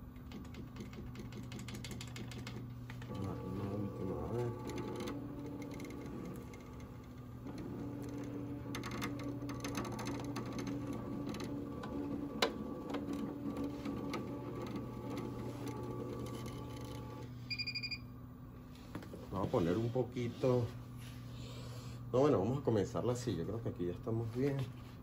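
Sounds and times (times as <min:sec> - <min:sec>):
embroidery machine humming: 0:00.0 - 0:25.0.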